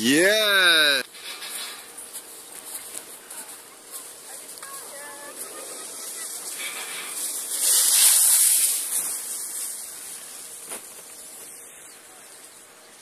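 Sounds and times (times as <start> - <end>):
skis scraping over snow: 1.1 - 13.0.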